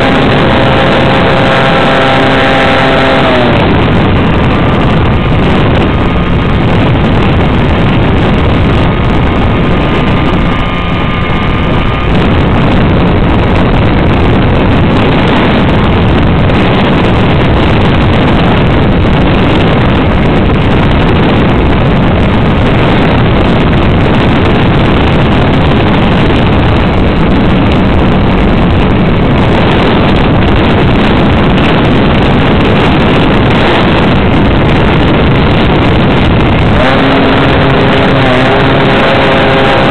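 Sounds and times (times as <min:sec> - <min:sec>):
model plane engine: 0:00.0 - 0:39.9
rushing air: 0:00.0 - 0:39.9.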